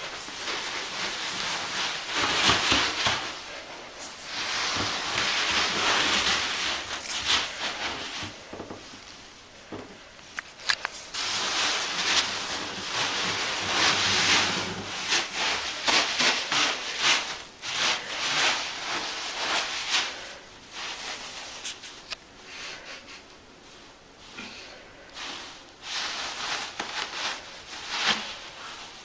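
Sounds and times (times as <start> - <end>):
foam beads rustling and hissing: 0.0 - 29.0.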